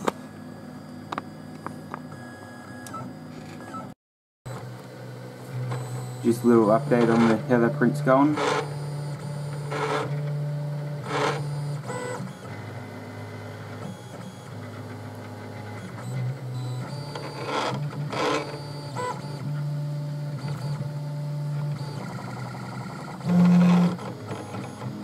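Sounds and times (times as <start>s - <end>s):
three-d printer stepper motor whine: 4.5s - 25.0s.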